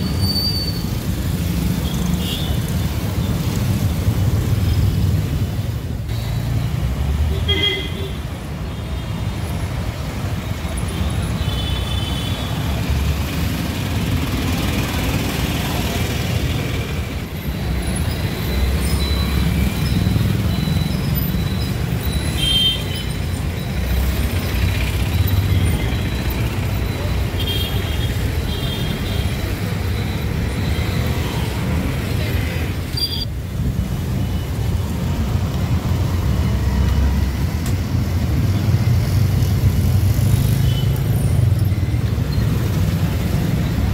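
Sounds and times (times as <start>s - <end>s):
rumble of passing vehicles: 0.0s - 43.9s.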